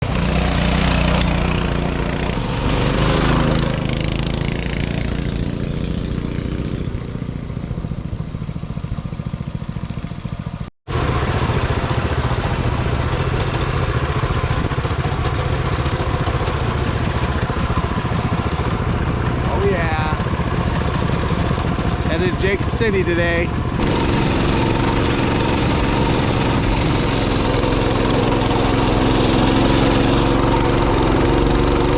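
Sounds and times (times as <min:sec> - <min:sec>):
mini bike engine revving: 0:00.0 - 0:08.2, 0:10.9 - 0:31.9.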